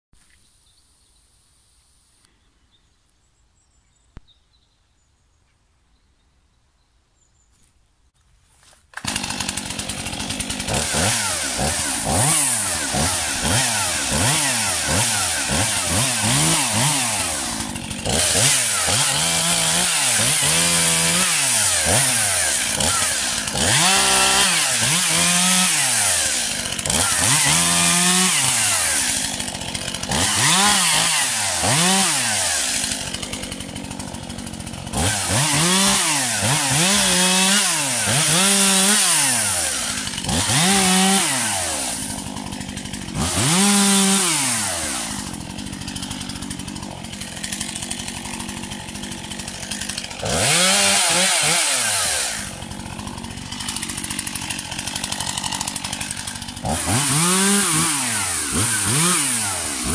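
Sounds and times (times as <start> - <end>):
chainsaw running: 8.6 - 59.9.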